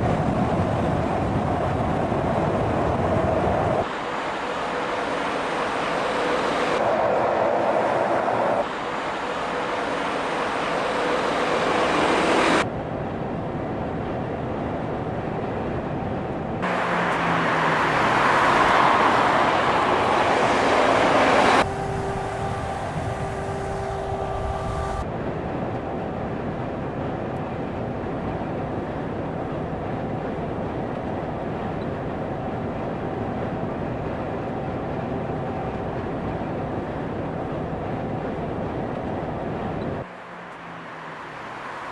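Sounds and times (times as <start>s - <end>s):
road vehicle driving noise: 0.0s - 41.9s.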